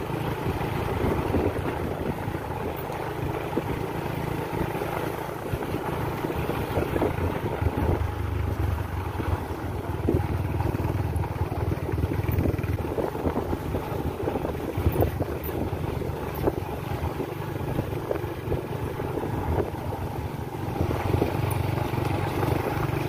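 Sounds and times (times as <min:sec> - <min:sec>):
vehicle engine rumble: 0:00.0 - 0:23.0
wind buffeting microphone: 0:00.0 - 0:23.0.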